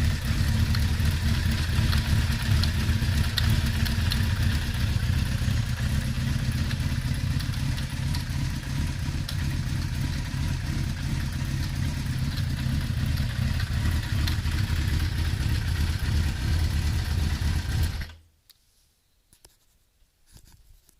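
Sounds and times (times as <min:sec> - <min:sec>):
light engine clatter: 0:00.0 - 0:18.2
motorcycle engine idling: 0:00.0 - 0:18.2.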